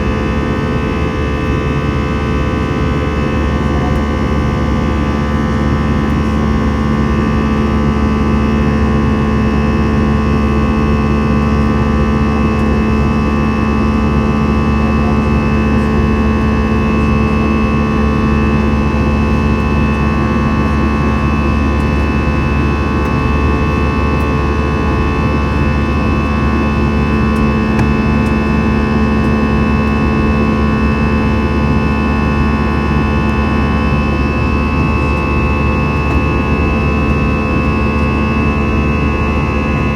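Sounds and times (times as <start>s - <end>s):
airliner cabin engine noise: 0.0s - 39.9s.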